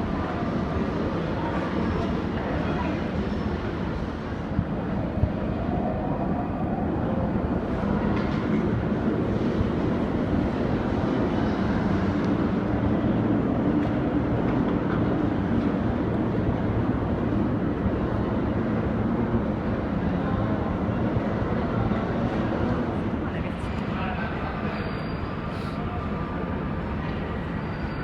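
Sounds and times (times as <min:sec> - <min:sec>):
train rolling and motor noise: 0:00.0 - 0:28.0.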